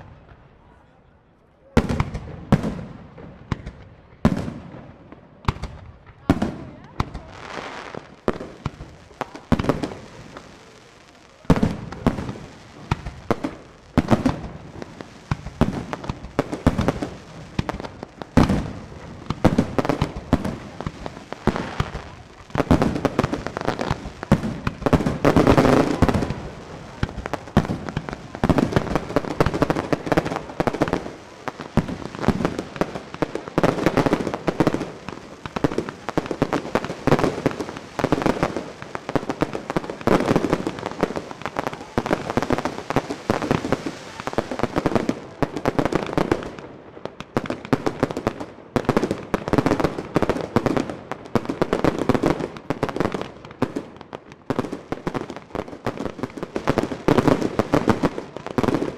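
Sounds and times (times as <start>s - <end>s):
fireworks crackling: 0.0s - 0.8s, 1.6s - 58.9s
fireworks bursting bangs: 1.7s - 58.9s
fireworks launching: 1.8s - 58.9s.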